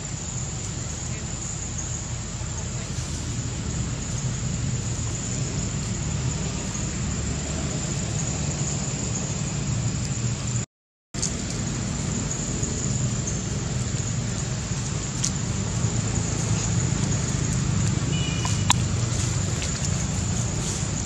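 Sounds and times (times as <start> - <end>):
hiss: 0.0 - 10.4, 11.2 - 21.0.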